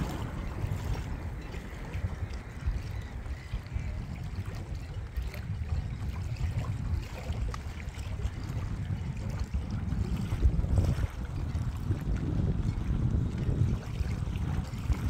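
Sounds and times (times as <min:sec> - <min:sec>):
small waves lapping: 0:00.0 - 0:15.0
wind buffeting microphone: 0:00.0 - 0:15.0.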